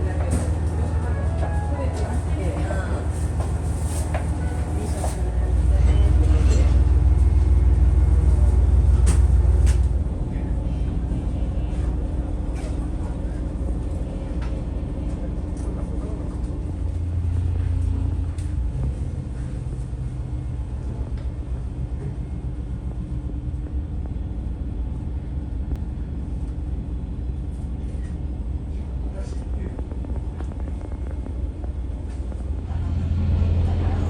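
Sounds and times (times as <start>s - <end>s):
faint hum: 0.0s - 34.0s
railcar rumble: 0.0s - 34.0s.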